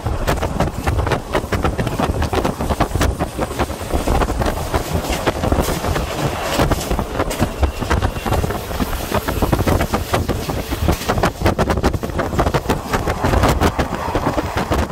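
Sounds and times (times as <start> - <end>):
railcar rumbling on track: 0.0 - 14.9
train clicking and rattling: 0.0 - 14.9
wind on microphone: 0.0 - 14.9.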